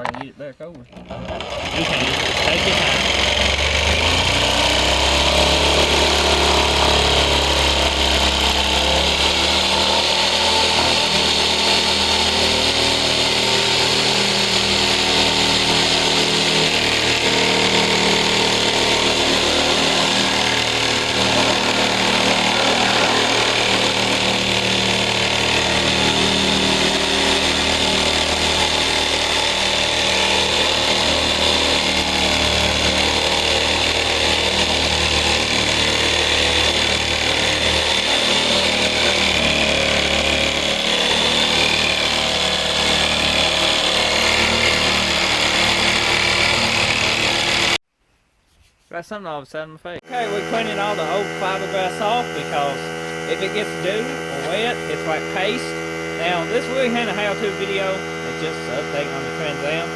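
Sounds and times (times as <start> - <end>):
power tool cutting fiberglass: 0.9 - 47.8, 50.0 - 59.9.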